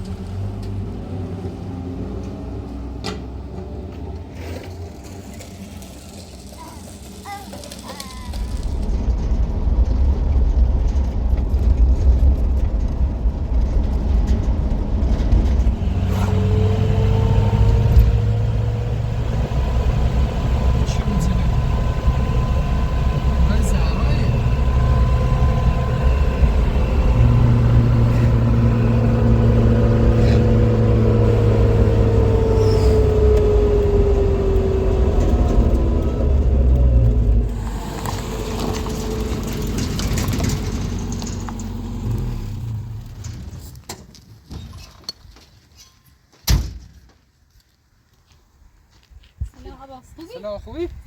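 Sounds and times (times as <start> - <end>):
vehicle engine running: 0.0 - 43.7.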